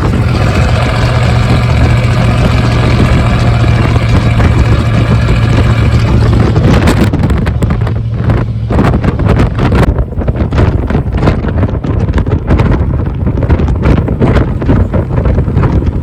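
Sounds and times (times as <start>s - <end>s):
engine droning at low revs: 0.0s - 16.0s
wind gusts on microphone: 0.0s - 16.0s.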